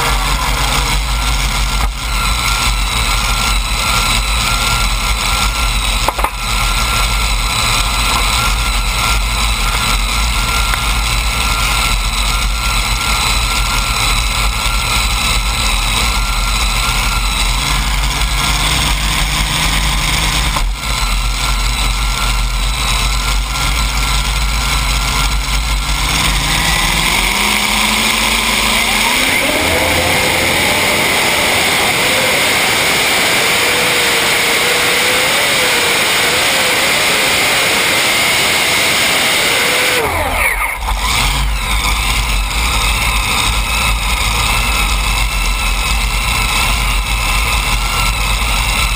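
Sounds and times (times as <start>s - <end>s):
tractor engines revving: 0.0s - 48.9s.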